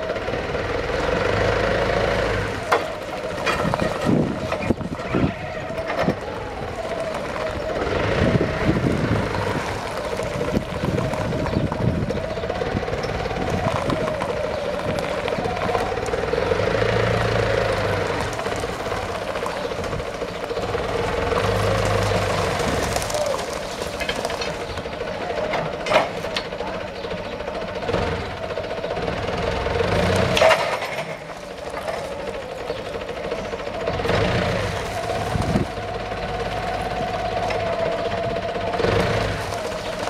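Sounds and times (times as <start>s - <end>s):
forklift engine running: 0.0s - 40.0s.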